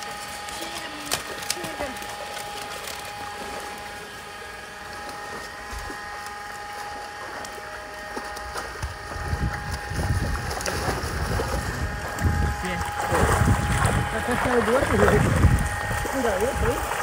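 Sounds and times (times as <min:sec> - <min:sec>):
fish thrashing in water: 0:00.0 - 0:17.0
steady hum: 0:00.0 - 0:17.0
water splashing: 0:00.0 - 0:17.0.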